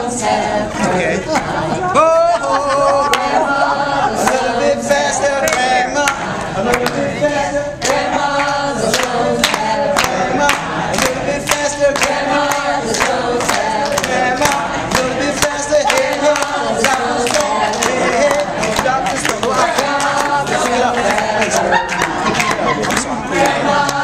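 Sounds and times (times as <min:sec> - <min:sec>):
group chanting a song: 0:00.0 - 0:24.0
rhythmic taps or claps: 0:03.0 - 0:03.5, 0:04.2 - 0:07.0, 0:07.8 - 0:24.0.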